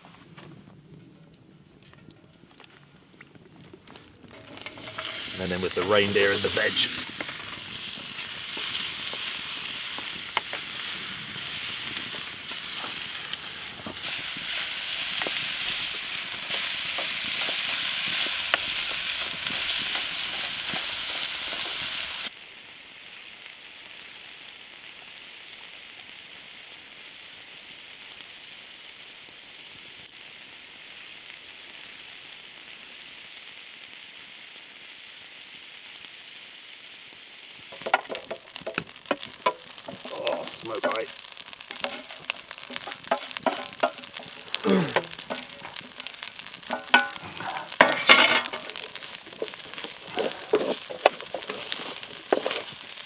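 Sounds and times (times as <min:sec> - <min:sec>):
meat and vegetables sizzling: 0:02.6 - 0:53.0.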